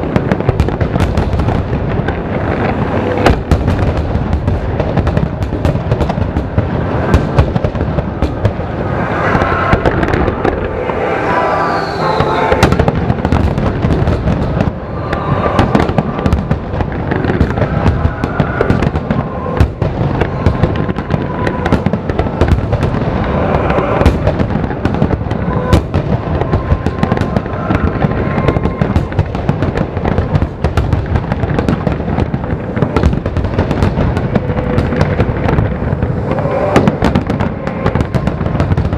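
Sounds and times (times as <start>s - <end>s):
fireworks booming and cracking: 0.0s - 38.9s.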